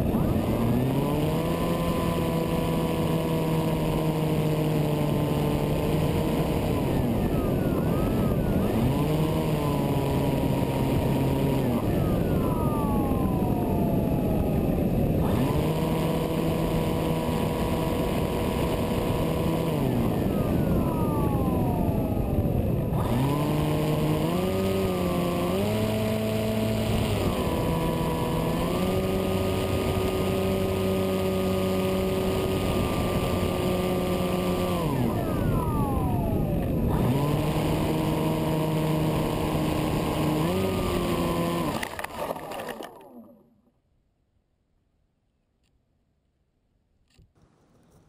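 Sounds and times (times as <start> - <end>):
electric motor and propeller: 0.0 - 43.6.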